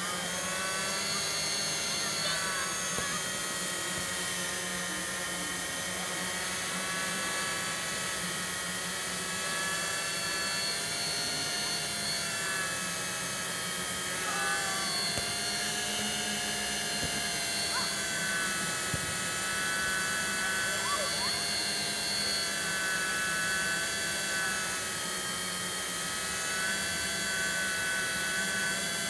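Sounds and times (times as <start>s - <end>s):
drone motors whirring: 0.0s - 29.0s.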